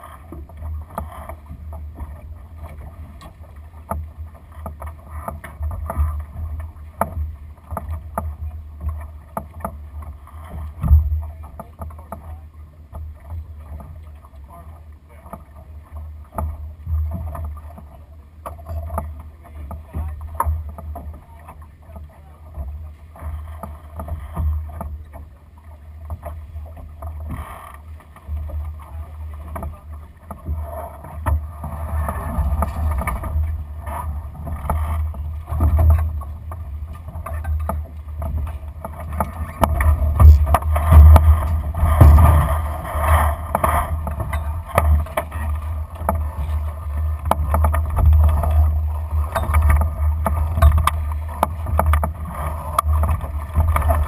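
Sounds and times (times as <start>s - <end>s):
sail rustling and knocks: 0.0s - 54.0s
water along hull: 0.0s - 54.0s.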